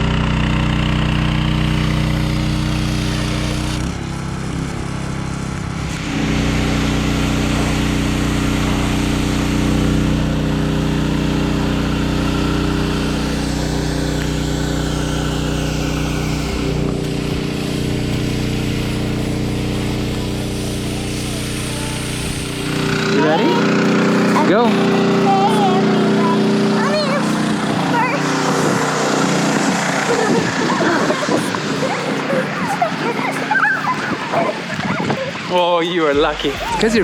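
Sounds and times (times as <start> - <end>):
pressure washer engine running: 0.0 - 37.0.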